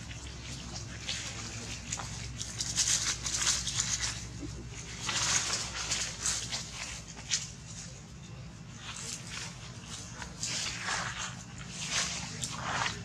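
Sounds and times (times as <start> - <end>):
dry leaves rustling and crunching: 0.0 - 13.0.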